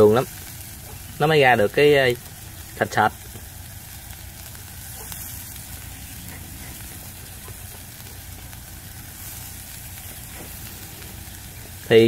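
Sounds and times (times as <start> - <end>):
sauce and fat sizzling in a pot: 0.0 - 12.0.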